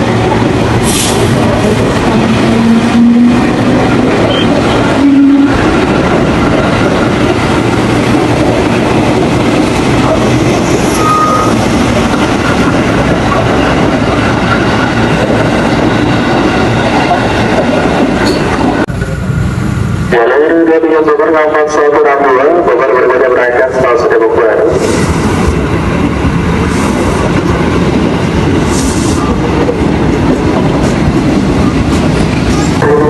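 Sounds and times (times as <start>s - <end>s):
electric train rumbling on rails: 0.0s - 33.0s.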